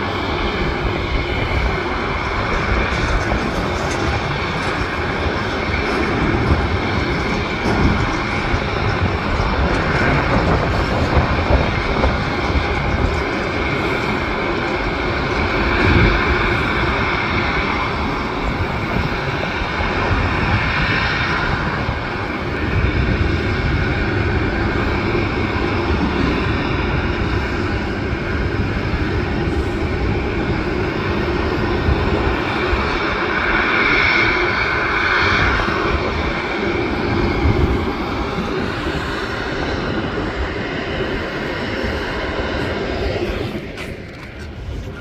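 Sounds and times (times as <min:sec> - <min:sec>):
jet engines whining and roaring: 0:00.0 - 0:45.0
wind buffeting microphone: 0:00.0 - 0:45.0.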